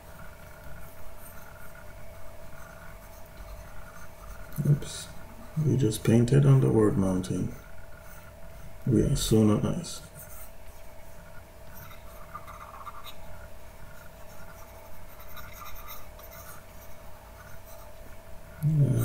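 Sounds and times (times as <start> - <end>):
stylus scratching on drawing tablet: 0.0 - 18.2
faint electrical hum: 0.0 - 19.0.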